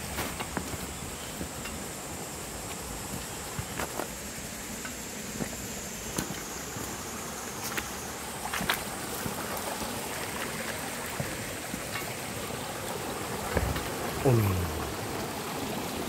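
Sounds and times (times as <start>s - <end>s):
stream flowing over rocks: 0.0s - 16.0s.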